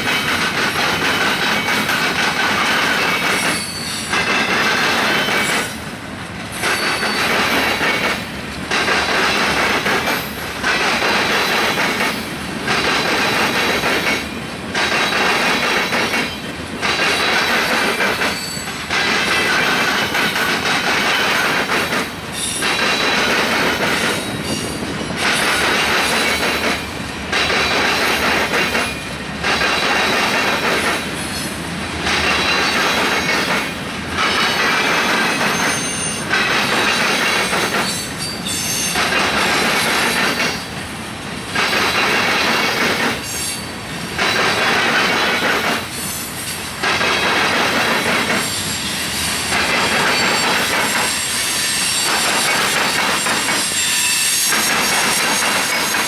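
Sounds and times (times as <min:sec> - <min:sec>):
train cars rolling past: 0:00.0 - 0:56.0
wheels squealing on rail: 0:00.0 - 0:56.0.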